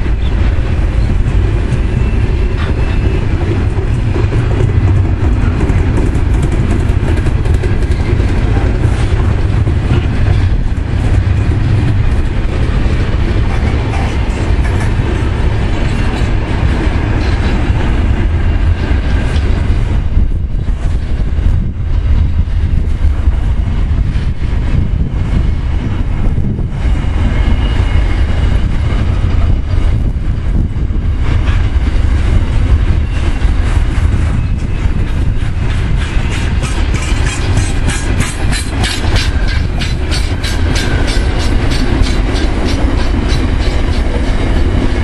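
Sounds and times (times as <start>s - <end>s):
train wheels rumbling: 0.0s - 45.0s.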